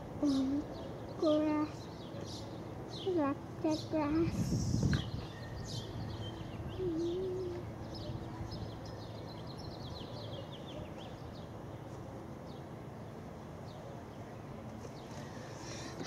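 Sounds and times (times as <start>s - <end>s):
low outdoor background hum: 0.0s - 16.0s
small birds chirping: 0.2s - 16.0s.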